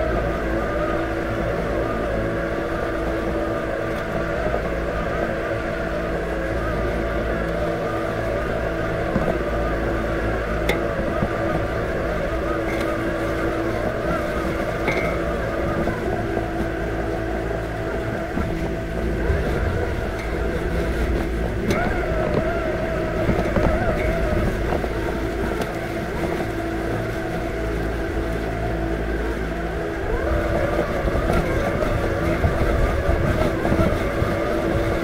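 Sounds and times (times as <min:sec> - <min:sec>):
lawn mower motor whine: 0:00.0 - 0:35.0
low rumble: 0:00.0 - 0:35.0.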